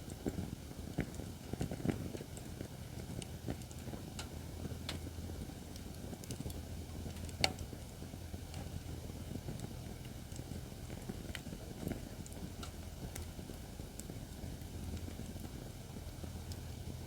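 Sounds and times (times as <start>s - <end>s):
fire crackling: 0.0s - 17.0s
low rumble of flames: 0.0s - 17.0s.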